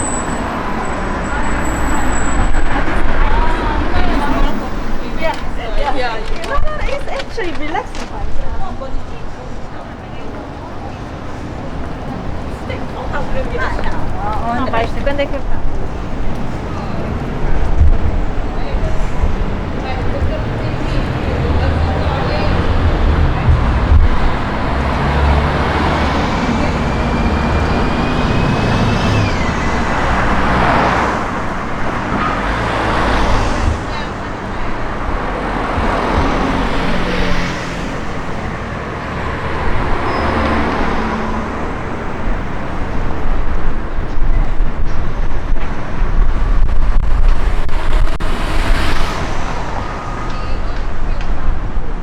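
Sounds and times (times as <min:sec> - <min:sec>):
vehicles passing: 0:00.0 - 0:52.0
wind buffeting microphone: 0:00.0 - 0:52.0.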